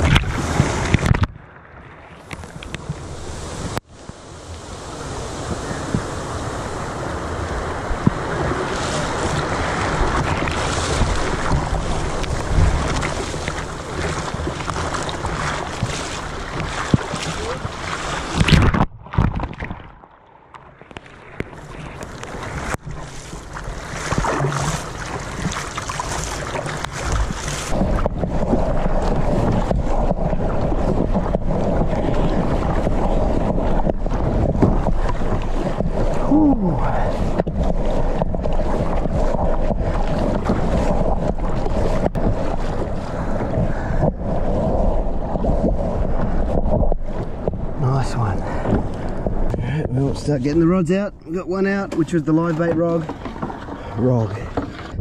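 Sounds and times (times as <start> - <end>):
wind buffeting microphone: 2.4 - 19.8, 21.4 - 55.0
water sloshing around boat: 4.8 - 55.0.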